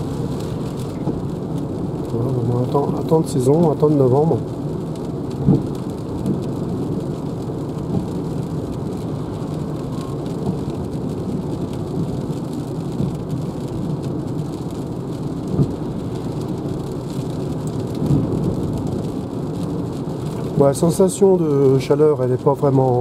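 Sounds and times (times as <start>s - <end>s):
rain rumble: 0.0s - 23.0s
tyres on wet road: 0.0s - 23.0s.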